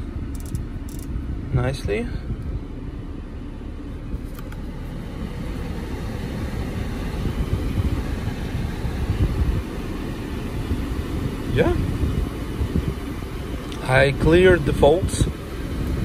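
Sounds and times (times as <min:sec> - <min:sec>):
air conditioning blowing: 0:00.0 - 0:16.0
car engine running: 0:00.0 - 0:16.0.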